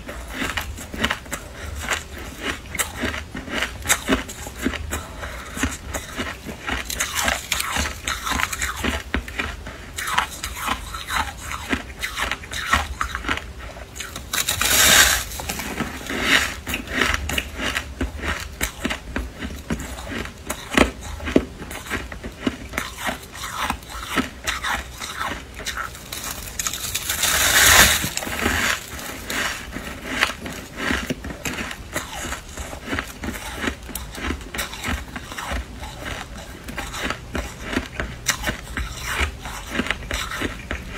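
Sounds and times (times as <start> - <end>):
frost crunching as chewed: 0.0 - 40.9.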